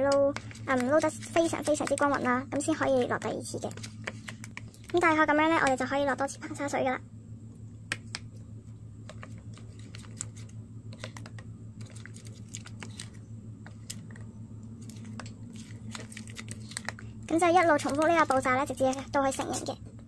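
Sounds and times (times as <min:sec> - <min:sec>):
low steady hum: 0:00.0 - 0:20.0
spoon stirring slime in cup: 0:00.1 - 0:05.8, 0:09.0 - 0:19.6.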